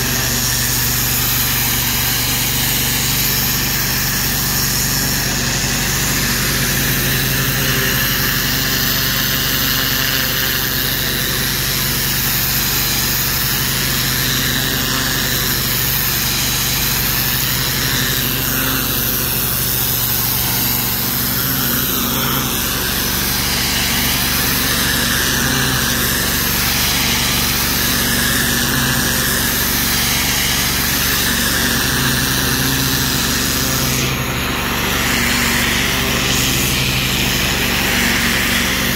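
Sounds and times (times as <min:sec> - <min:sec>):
pressure washer motor drone: 0:00.0 - 0:38.9
water jet hissing on brick: 0:00.0 - 0:38.9.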